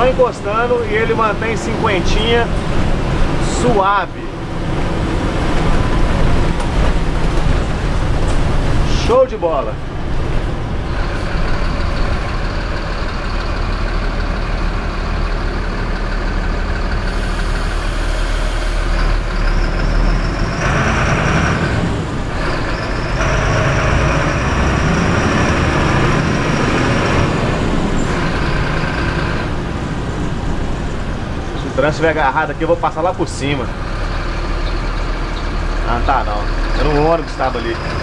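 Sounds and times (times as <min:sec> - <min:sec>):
bus engine and road noise: 0:00.0 - 0:38.0.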